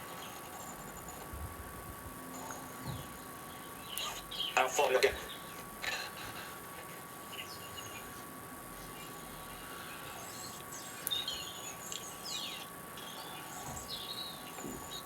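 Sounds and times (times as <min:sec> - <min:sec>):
thin steady whine: 0:00.0 - 0:15.0
birds chirping: 0:02.2 - 0:15.0.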